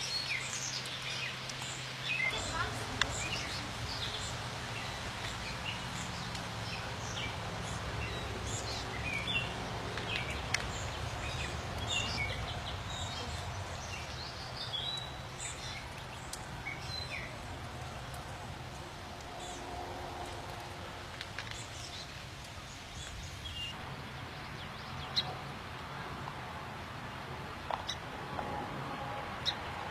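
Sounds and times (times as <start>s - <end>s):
songbirds chirping: 0.0s - 26.1s.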